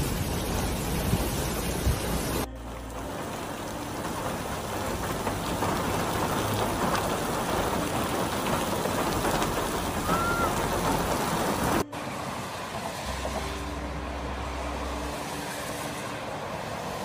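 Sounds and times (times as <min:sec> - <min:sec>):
heavy rain on flooded road: 0:00.0 - 0:17.0
quieter water rushing: 0:00.0 - 0:17.0.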